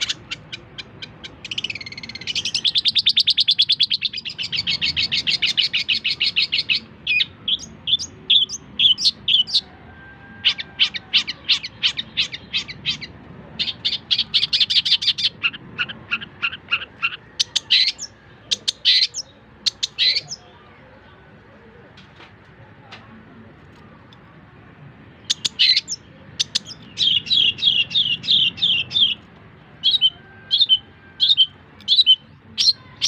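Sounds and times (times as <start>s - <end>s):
shrike singing: 0.0s - 21.8s, 23.7s - 33.0s.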